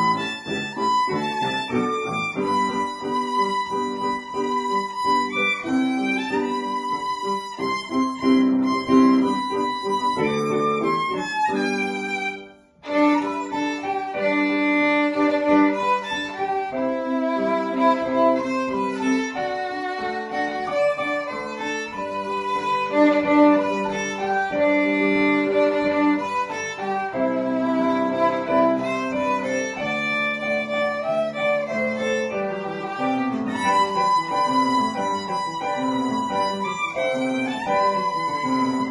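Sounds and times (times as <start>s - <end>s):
violin playing classical piece: 0.0s - 38.9s.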